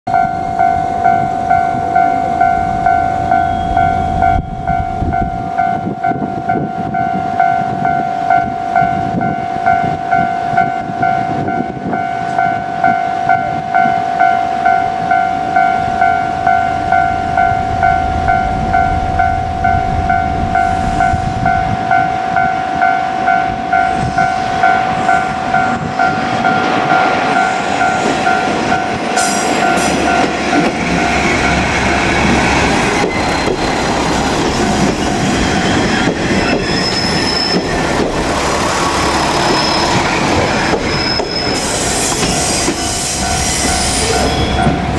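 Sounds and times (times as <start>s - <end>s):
diesel railcar engine and wheels: 0.1s - 44.9s
level-crossing warning bell: 0.1s - 44.9s.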